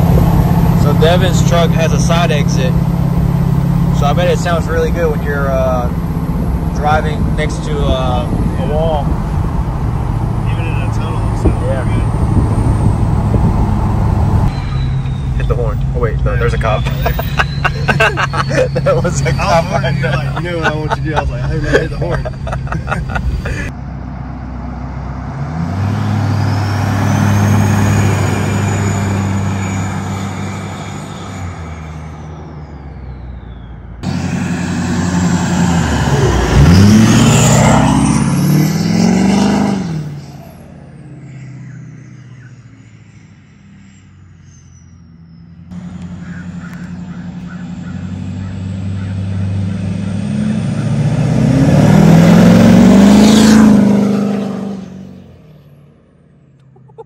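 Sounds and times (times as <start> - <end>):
diesel truck passing by: 0.0 - 57.0.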